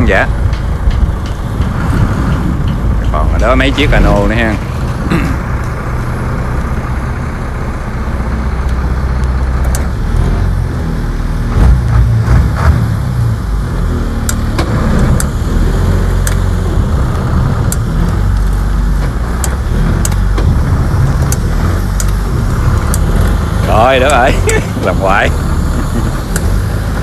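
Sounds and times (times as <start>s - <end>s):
speedboat engine idling: 0.0s - 27.0s.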